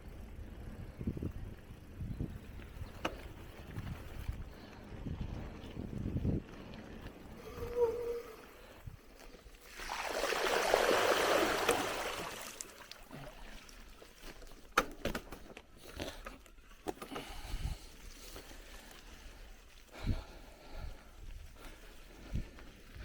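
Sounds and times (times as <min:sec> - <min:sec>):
bicycle rattling over rough ground: 0:00.0 - 0:09.8, 0:11.2 - 0:23.0.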